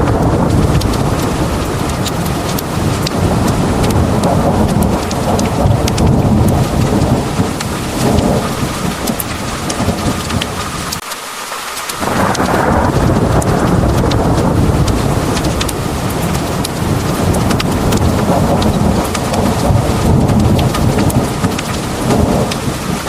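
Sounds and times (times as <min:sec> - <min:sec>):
rolling thunder: 0:00.0 - 0:11.0, 0:12.0 - 0:23.0
heavy rain pouring: 0:00.0 - 0:23.0
water drips and spatters: 0:00.0 - 0:23.0.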